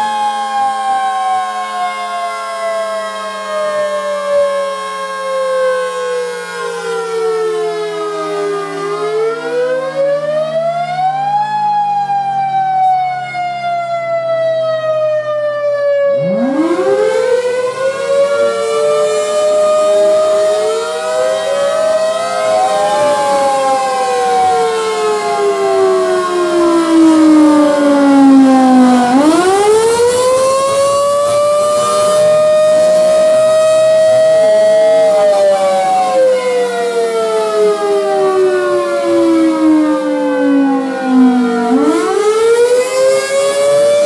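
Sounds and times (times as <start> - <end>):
siren climbing from low growl: 0.0 - 44.0
warning sirens wailing: 0.0 - 44.0.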